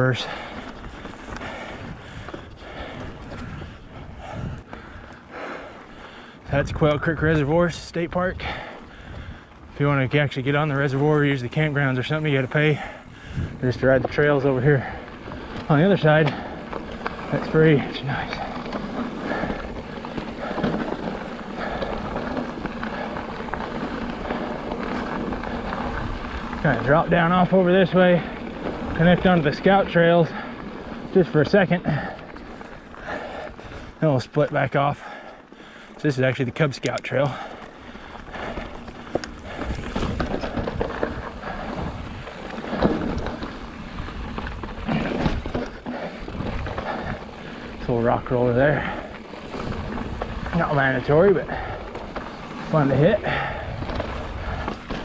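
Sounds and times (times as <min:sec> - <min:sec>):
wind buffeting microphone: 0:00.0 - 0:05.8, 0:06.4 - 0:31.2, 0:37.4 - 0:55.0
bike rattling: 0:00.0 - 0:55.0
tyres crunching over gravel: 0:00.0 - 0:55.0
small stones crackling: 0:08.6 - 0:55.0.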